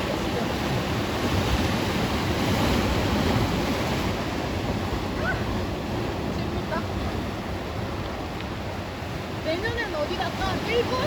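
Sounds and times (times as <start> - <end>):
sea surf rushing: 0.0 - 11.0
wind on microphone: 0.0 - 11.0.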